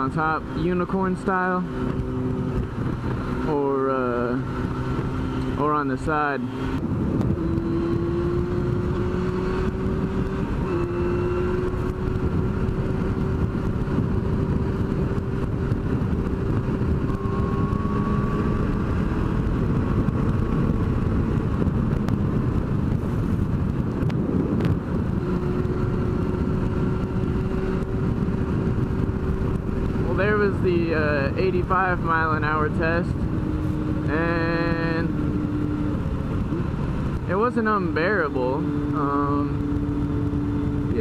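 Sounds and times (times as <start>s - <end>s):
motorcycle engine at high revs: 0.0s - 41.0s
wind noise on microphone: 0.0s - 41.0s.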